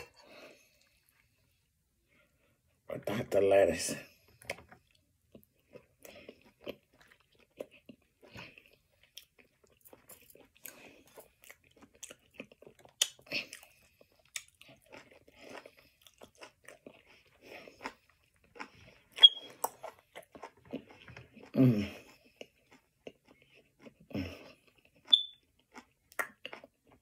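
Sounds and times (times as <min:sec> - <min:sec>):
chewing crunches: 0:04.4 - 0:27.0.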